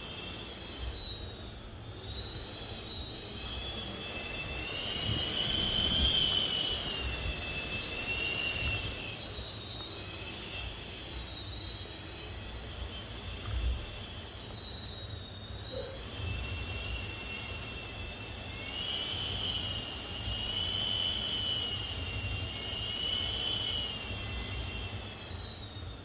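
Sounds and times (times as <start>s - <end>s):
wind whistling through a gap: 0.0s - 26.0s.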